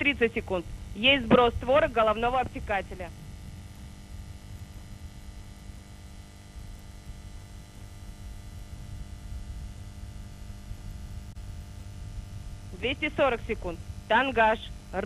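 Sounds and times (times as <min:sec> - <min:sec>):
electrical hum and static: 0:00.0 - 0:15.0
low rumbling noise: 0:00.0 - 0:15.0.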